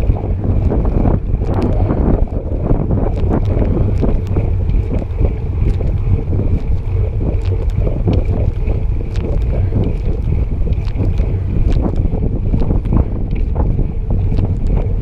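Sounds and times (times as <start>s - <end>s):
faint ticks: 0.0s - 15.0s
wind buffeting microphone: 0.0s - 15.0s.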